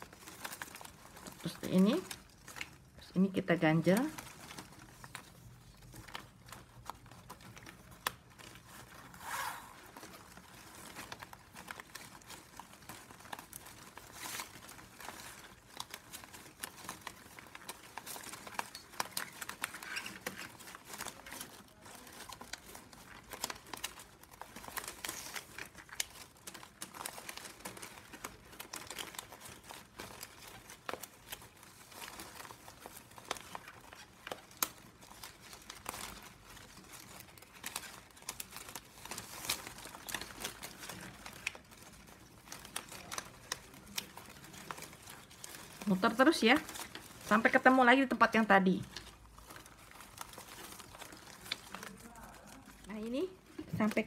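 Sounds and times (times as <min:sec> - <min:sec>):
plastic strapping crinkling and clicking: 0:00.0 - 0:54.0.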